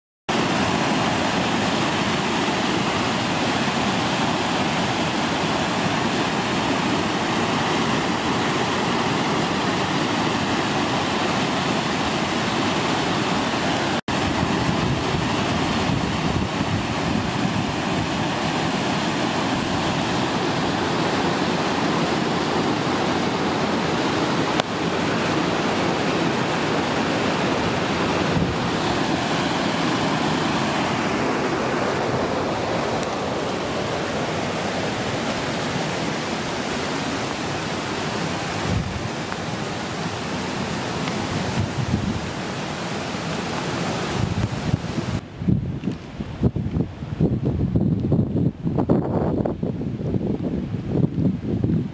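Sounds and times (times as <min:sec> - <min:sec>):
floodwater rushing over weir: 0:00.3 - 0:51.9.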